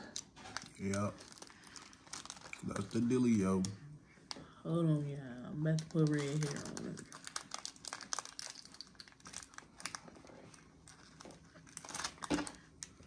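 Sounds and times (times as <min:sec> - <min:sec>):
plastic packaging crinkling: 0:00.0 - 0:03.8, 0:05.7 - 0:13.0.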